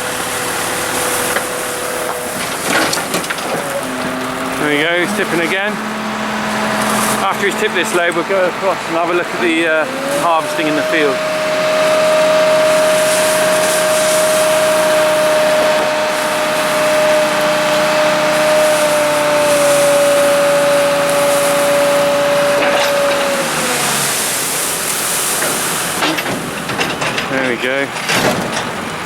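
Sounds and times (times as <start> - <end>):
hydraulic whine: 0.0 - 29.0
tractor engine running: 0.0 - 29.0.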